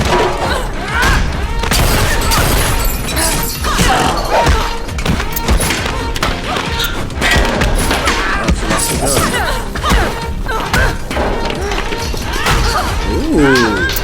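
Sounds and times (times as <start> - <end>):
action music: 0.0 - 14.0.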